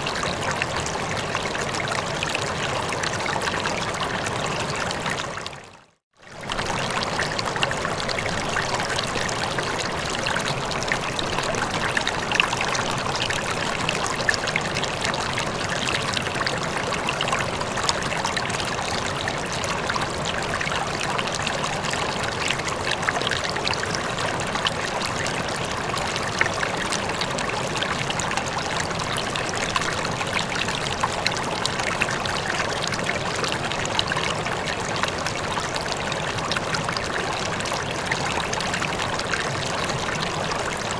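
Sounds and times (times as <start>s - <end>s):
water trickling splashes: 0.0s - 40.9s
river flowing: 6.3s - 40.9s.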